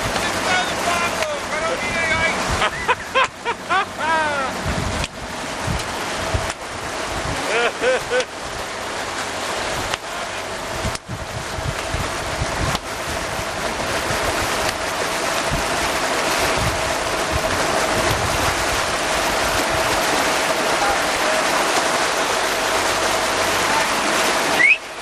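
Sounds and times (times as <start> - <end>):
water and wind rushing: 0.0 - 25.0.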